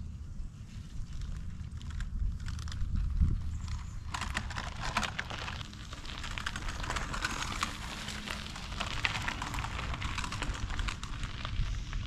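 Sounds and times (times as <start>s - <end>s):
steady low rumble: 0.0s - 12.0s
crackling and rustling: 0.5s - 12.0s.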